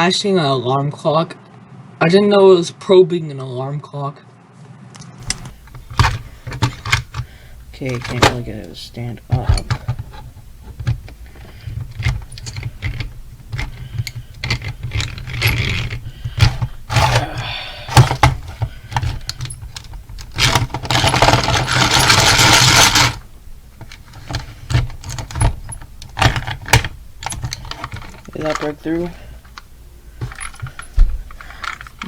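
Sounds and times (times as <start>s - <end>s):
handling clicks and knocks: 5.2s - 32.0s.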